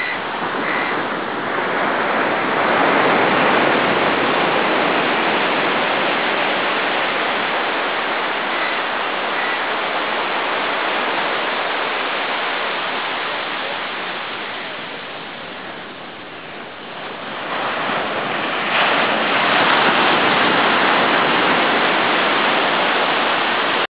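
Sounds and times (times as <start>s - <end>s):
surf breaking on beach: 0.0s - 23.9s.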